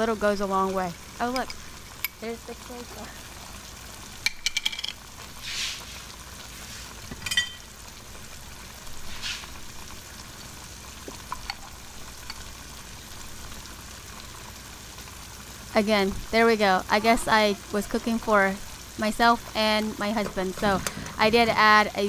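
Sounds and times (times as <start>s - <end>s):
meat sizzling in a pot: 0.0s - 22.0s.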